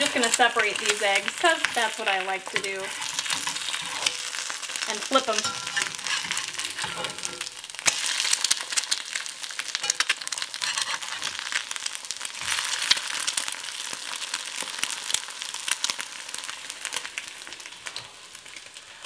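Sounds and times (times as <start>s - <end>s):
eggs sizzling in fat: 0.0s - 19.0s.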